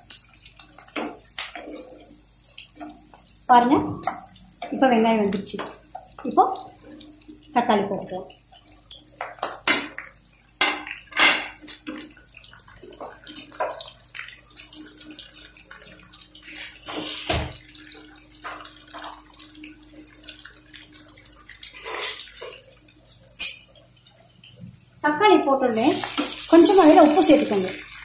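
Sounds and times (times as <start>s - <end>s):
vegetables sizzling in hot oil: 0.0s - 23.5s, 25.0s - 28.0s.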